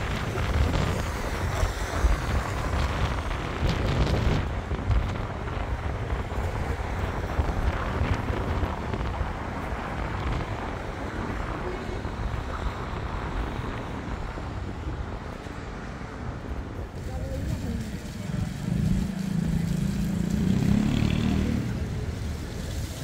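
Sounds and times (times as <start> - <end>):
road traffic: 0.0 - 23.0
wind buffeting microphone: 0.0 - 23.0.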